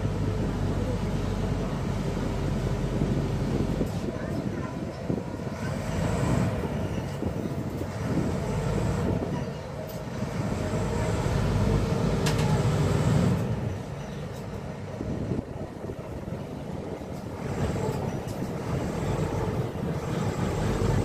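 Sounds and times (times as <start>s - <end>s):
ferry engine rumbling: 0.0s - 21.0s.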